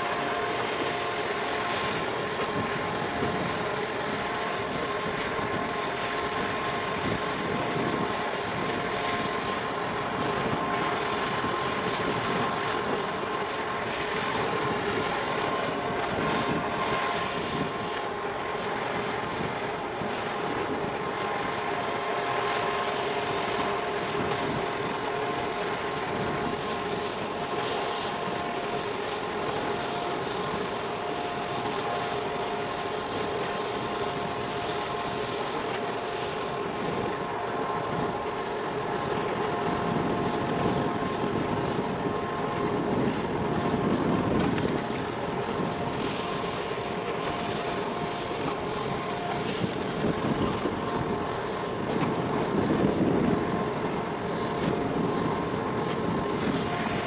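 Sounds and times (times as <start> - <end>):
machinery drone: 0.0 - 57.0.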